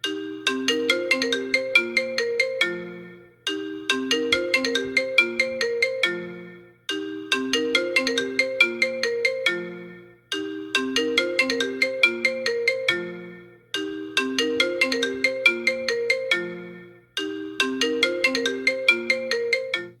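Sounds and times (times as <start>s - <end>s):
phone ringtone melody: 0.0s - 20.0s.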